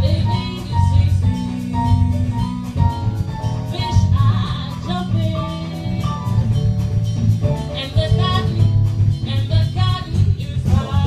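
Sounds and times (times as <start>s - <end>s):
drum kit: 0.0s - 11.0s
jazz band playing: 0.0s - 11.0s
walking bass line: 0.0s - 11.0s.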